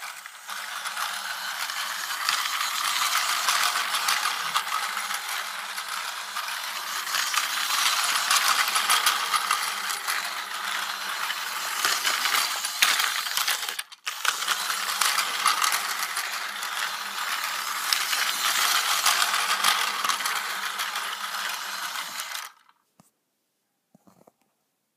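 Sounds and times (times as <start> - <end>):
toy train motor whirring: 0.0 - 22.8.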